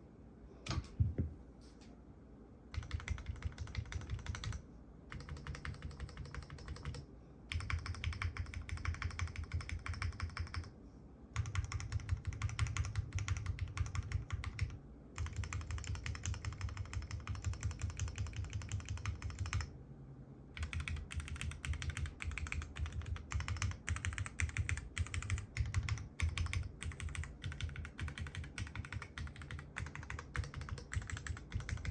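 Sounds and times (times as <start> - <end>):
mechanical keyboard typing: 2.7 - 10.7, 11.4 - 19.7, 20.6 - 31.9.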